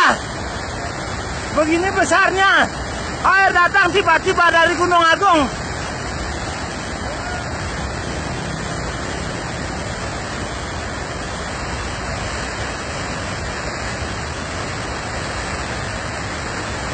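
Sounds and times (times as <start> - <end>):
mudflow rushing down river: 0.0 - 16.9.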